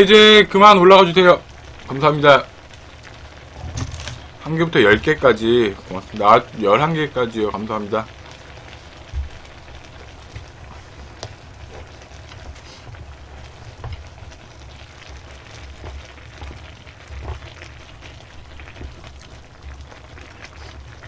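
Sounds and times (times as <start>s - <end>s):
stew simmering and bubbling: 0.0s - 21.0s.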